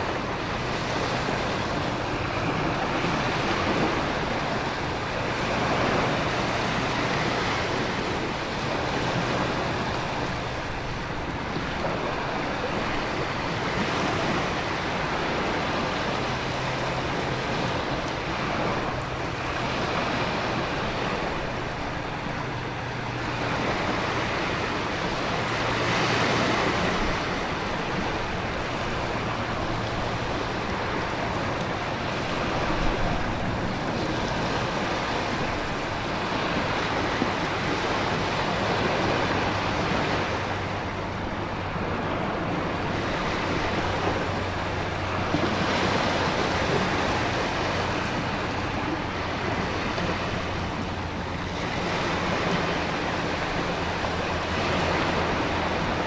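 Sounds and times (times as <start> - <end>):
ocean surf: 0.0 - 56.0
wind roaring: 0.0 - 56.0.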